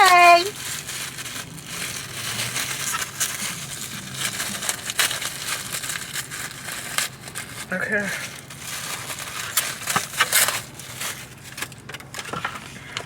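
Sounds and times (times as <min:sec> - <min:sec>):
food packaging crinkling: 0:00.0 - 0:13.0.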